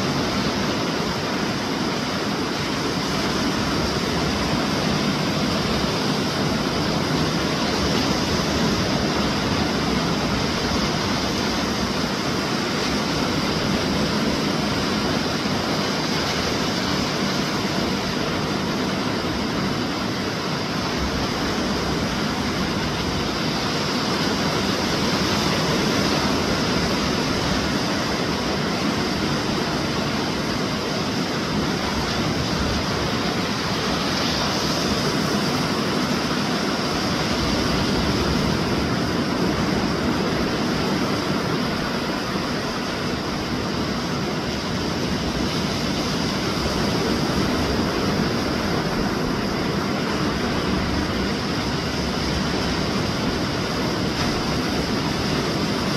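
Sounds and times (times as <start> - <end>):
surf breaking on beach: 0.0 - 55.9.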